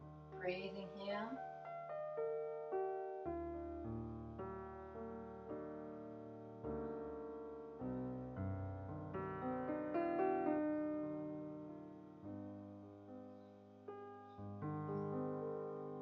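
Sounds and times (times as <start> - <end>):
slow soft solo piano: 0.0 - 0.6, 1.3 - 16.0.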